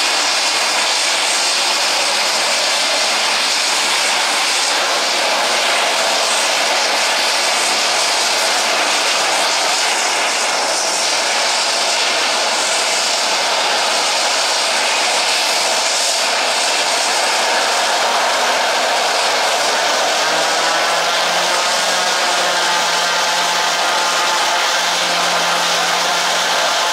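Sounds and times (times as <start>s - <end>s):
turboprop engines droning: 0.0s - 26.9s.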